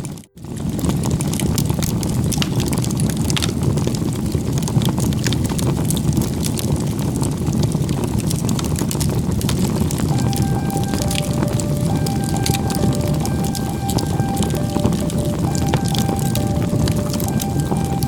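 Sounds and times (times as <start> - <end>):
low fire rumble: 0.0 - 18.0
wood fire crackling: 0.0 - 18.0.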